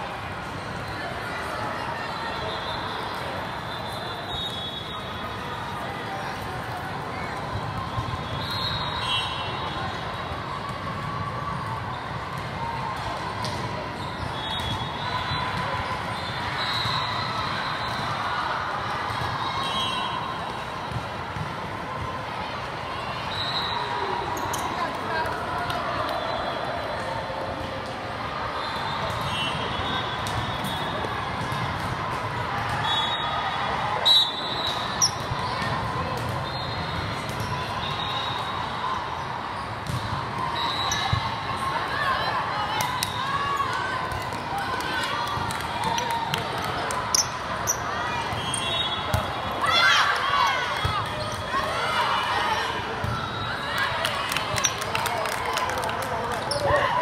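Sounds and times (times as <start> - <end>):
murmur of many voices: 0.0 - 57.0.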